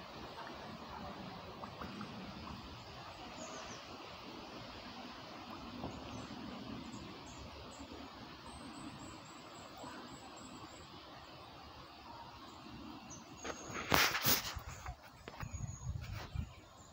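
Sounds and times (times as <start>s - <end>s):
faint outdoor background noise: 0.0s - 16.9s
small birds chirping: 0.2s - 16.9s.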